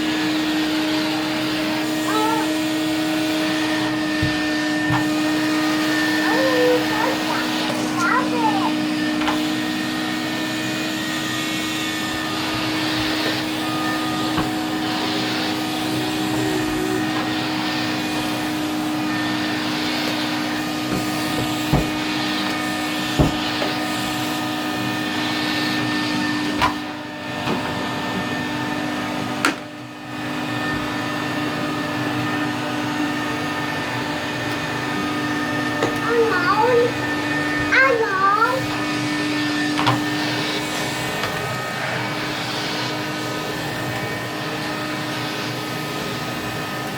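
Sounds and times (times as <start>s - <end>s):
vacuum cleaner droning hum: 0.0s - 46.9s.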